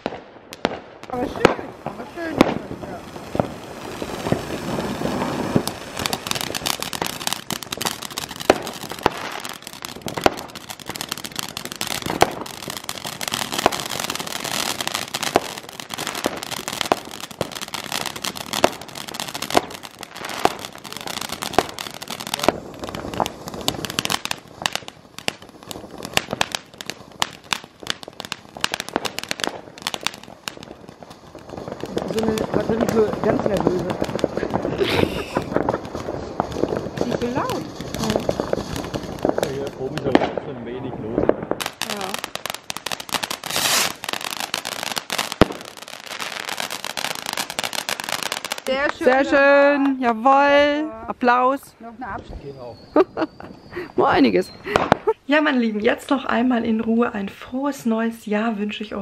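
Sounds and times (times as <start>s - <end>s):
fireworks crackling and popping: 0.0s - 59.0s
fireworks hissing: 0.0s - 59.0s.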